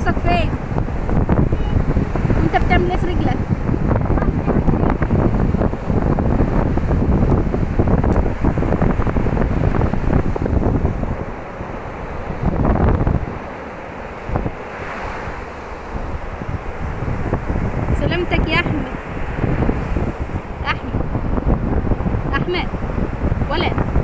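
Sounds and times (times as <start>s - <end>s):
surf: 0.0s - 24.0s
wind buffeting microphone: 0.0s - 24.0s.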